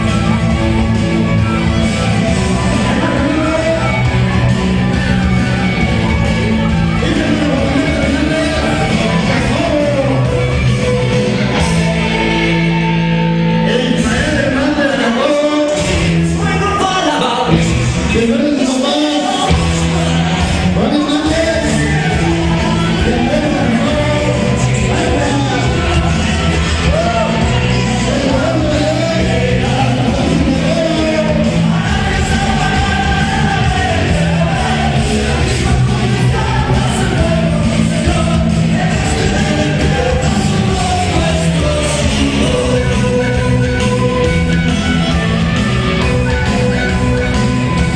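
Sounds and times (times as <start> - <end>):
cumbia music with singing: 0.0 - 47.9.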